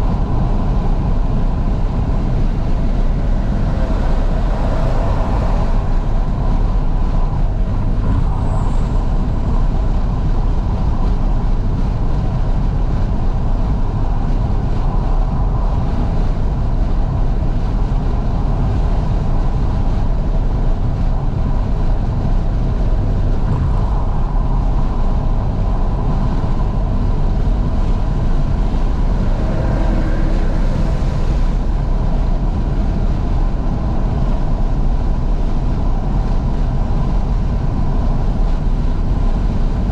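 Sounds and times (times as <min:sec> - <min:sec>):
car engine running: 0:00.0 - 0:39.9
wind and road noise: 0:00.0 - 0:39.9.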